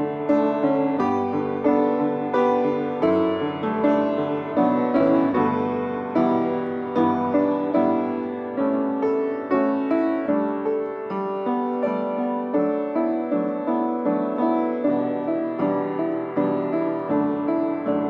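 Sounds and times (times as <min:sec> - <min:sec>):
piano prelude: 0:00.0 - 0:18.0.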